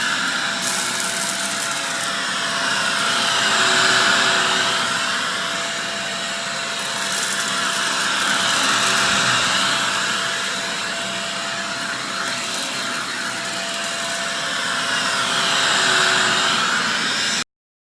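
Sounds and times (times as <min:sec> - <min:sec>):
grit crackling in vacuum: 0:00.0 - 0:16.8
vacuum cleaner running: 0:00.0 - 0:17.5.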